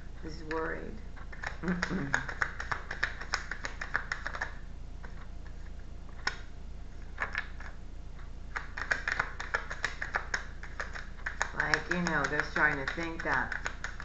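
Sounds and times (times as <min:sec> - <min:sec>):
cards being shuffled: 0:01.2 - 0:07.8, 0:08.5 - 0:14.0.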